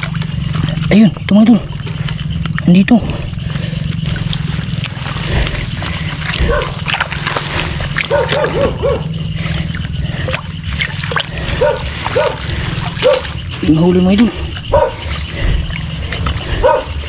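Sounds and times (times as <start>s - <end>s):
frogs croaking: 0.0s - 17.0s
steady low drone: 0.0s - 17.0s
wet leaves and mud rustling: 0.0s - 17.0s.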